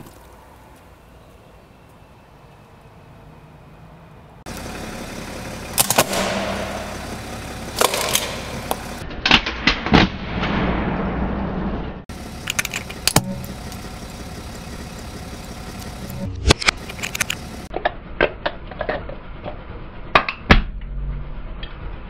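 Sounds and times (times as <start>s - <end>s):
car noise: 0.0s - 9.1s, 11.2s - 20.3s.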